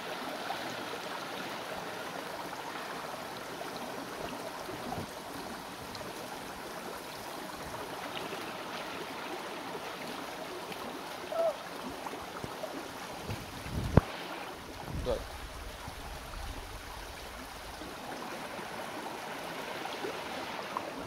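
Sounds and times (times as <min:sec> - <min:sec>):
stream running over stones: 0:00.0 - 0:21.0.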